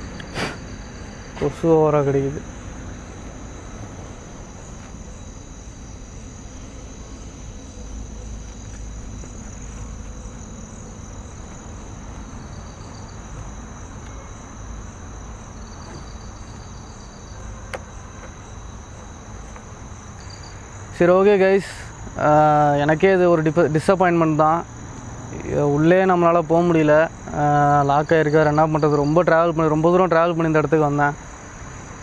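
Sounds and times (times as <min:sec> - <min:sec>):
crickets trilling: 0:00.0 - 0:32.0
insect pulsing call: 0:00.0 - 0:32.0.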